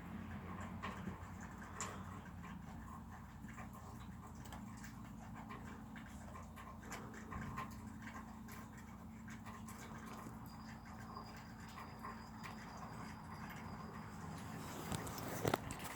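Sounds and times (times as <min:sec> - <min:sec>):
soft clicks and rustles: 0:00.3 - 0:15.9.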